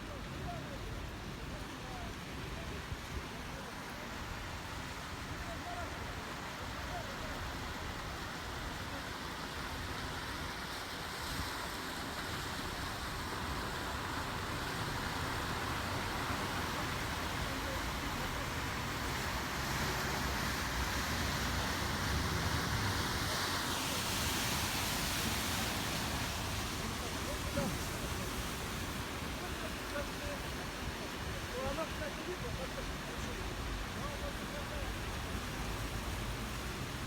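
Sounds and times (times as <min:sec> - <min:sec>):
road traffic noise: 0:00.0 - 0:37.0.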